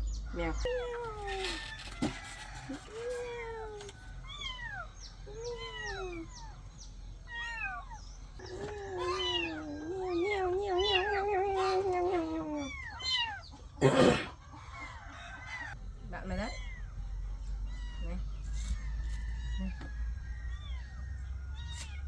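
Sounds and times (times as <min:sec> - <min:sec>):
kittens meowing: 0:00.5 - 0:13.8, 0:16.3 - 0:22.0.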